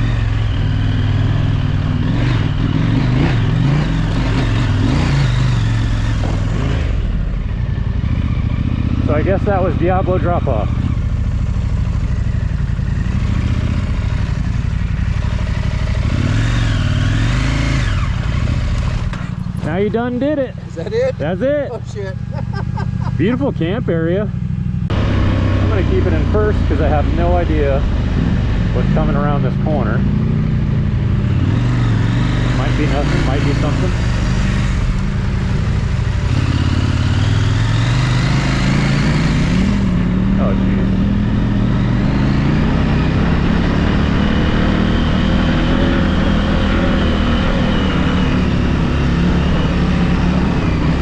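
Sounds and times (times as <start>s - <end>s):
motorcycle engine off-road: 0.0s - 51.0s
motorcycle rattling and clatter: 0.0s - 51.0s.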